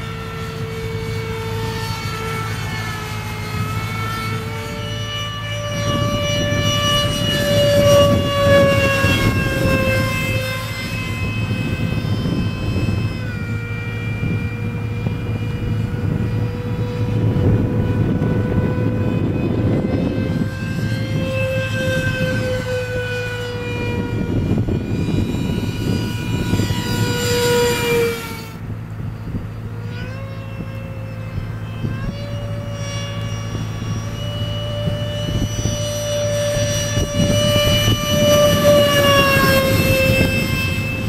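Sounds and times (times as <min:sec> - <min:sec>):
electric ducted fan whining: 0:00.0 - 0:41.0.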